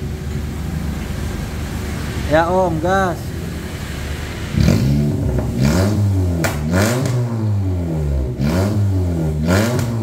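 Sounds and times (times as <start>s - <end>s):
car engine revving: 0.6s - 10.0s.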